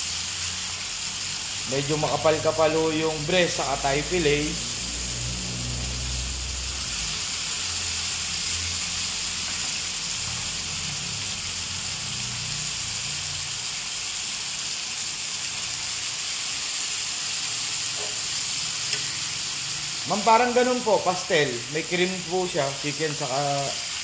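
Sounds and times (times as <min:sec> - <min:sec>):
chicken sizzling in a skillet: 0:00.0 - 0:24.0.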